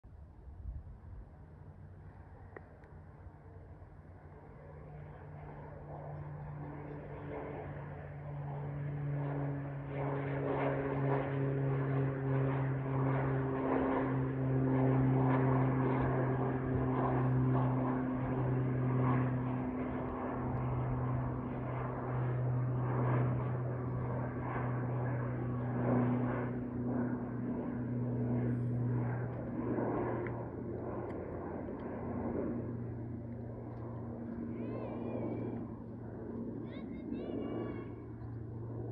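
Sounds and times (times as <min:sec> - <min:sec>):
turboprop plane drone: 0:00.1 - 0:38.9.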